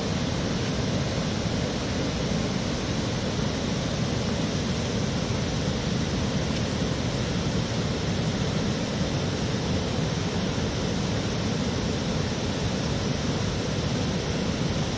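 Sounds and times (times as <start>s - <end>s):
steady rushing noise with rumble: 0.0s - 14.9s.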